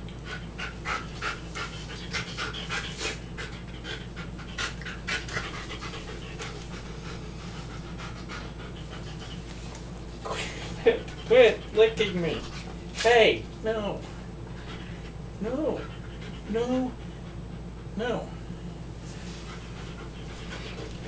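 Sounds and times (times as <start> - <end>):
dog panting: 0.1 - 12.8, 14.2 - 21.0.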